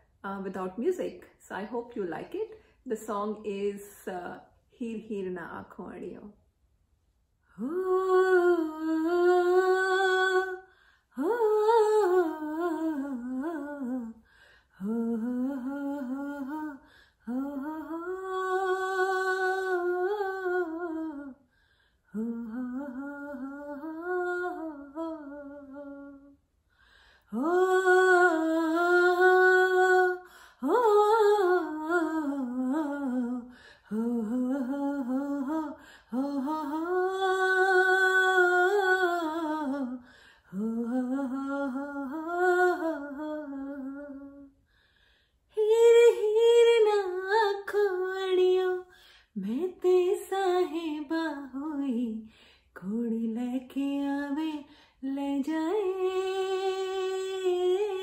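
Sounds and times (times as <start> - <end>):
woman singing unaccompanied: 7.6 - 14.2, 14.8 - 21.4, 22.1 - 26.4, 27.3 - 44.5, 45.6 - 58.0.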